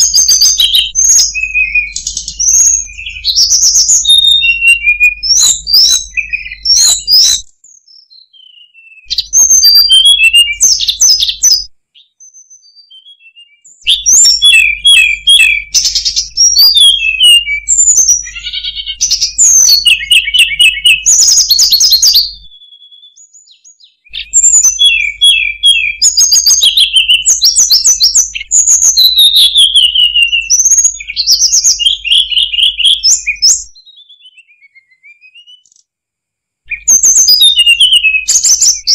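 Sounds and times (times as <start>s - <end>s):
bird whistling and trilling: 0.0s - 35.8s, 36.7s - 38.9s.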